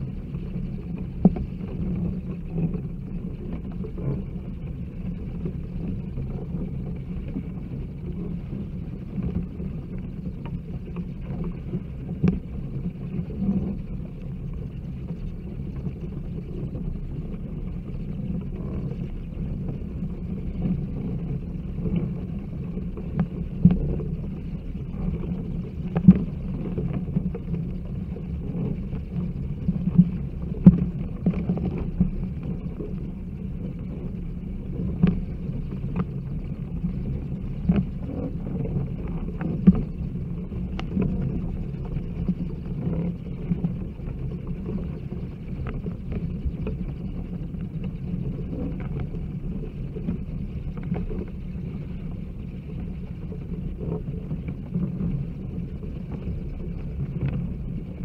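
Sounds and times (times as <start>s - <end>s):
bat colony low rumble: 0.0s - 58.0s.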